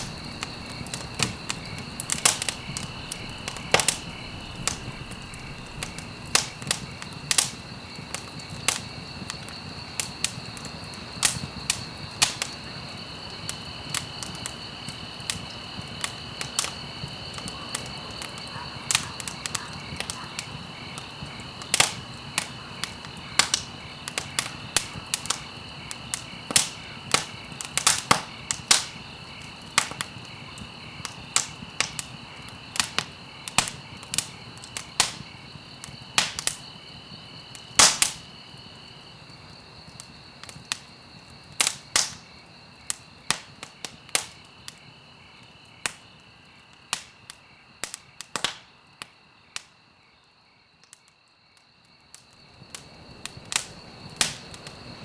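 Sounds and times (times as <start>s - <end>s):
wood fire crackling and popping: 0.0s - 49.7s, 52.1s - 55.0s.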